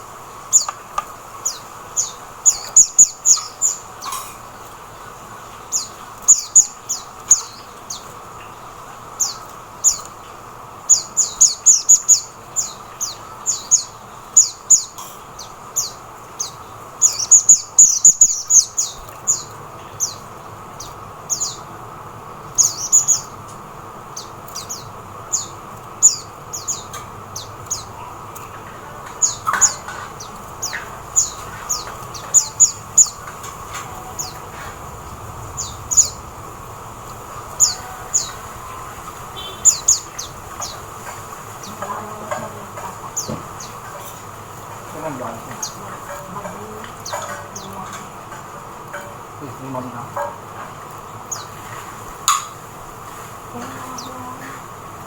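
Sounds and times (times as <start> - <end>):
bird chirping: 0.0 - 21.8, 22.4 - 52.6.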